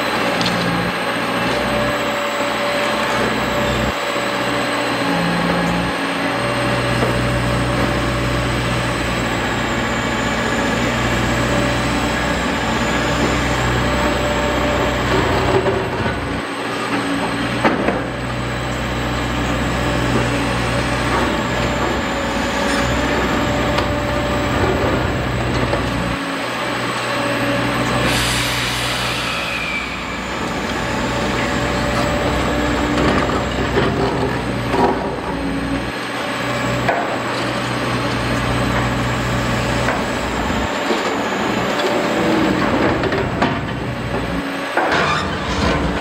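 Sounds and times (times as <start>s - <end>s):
diesel engine drone: 0.0s - 46.0s.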